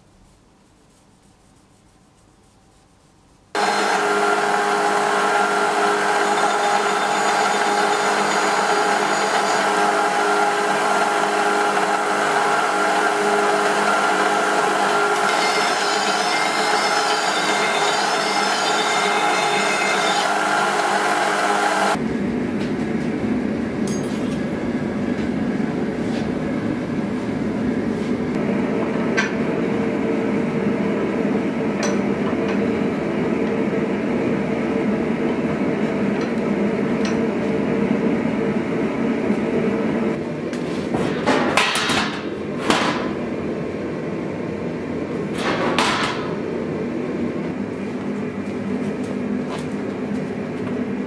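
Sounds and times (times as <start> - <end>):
gas forge burners roaring: 3.6 - 51.0.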